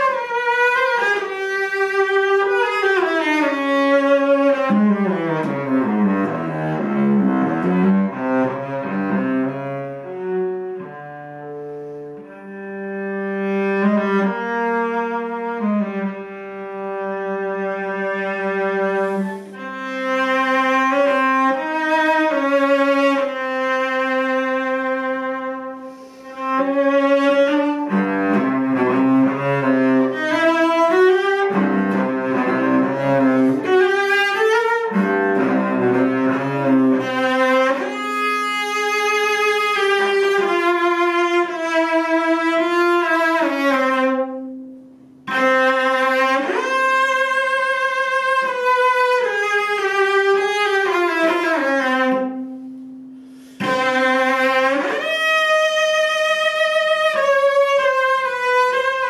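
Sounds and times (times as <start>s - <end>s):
bowed cello: 0.0s - 59.0s.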